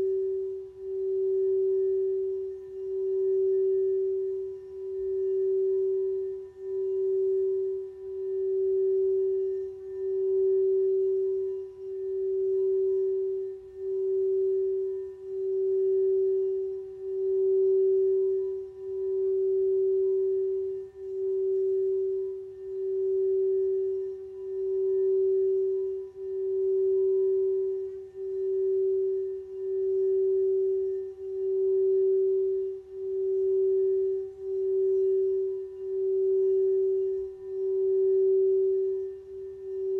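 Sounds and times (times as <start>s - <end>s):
singing bowl sustained note: 0.0s - 39.9s.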